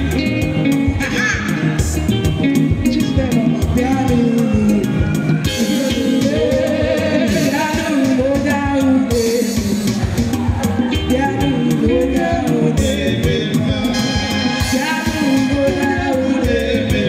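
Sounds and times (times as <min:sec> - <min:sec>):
band with steady beat: 0:00.0 - 0:17.0
vocalists singing: 0:02.7 - 0:17.0.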